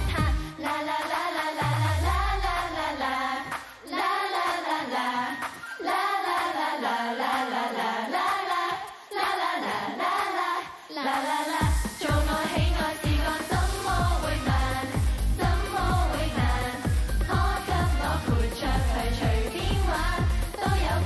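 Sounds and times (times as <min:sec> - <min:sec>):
pop backing track: 0:00.0 - 0:08.6, 0:11.5 - 0:21.0
women singing in unison: 0:00.0 - 0:21.0.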